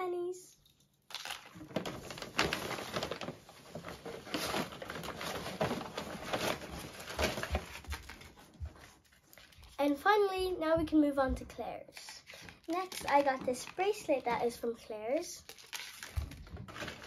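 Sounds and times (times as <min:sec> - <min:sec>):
packaging crinkling and rustling: 0:00.7 - 0:10.0, 0:12.0 - 0:17.0.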